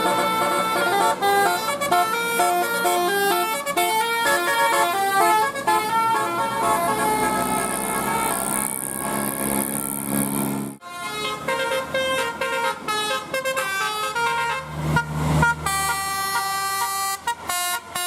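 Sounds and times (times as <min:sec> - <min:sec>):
air horns playing a tune: 0:00.0 - 0:09.5, 0:10.8 - 0:18.0.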